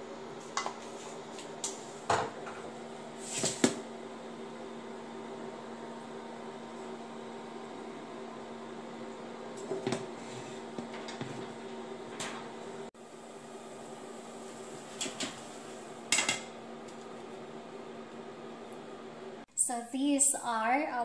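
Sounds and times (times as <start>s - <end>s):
cooling fan hum: 0.0s - 21.0s.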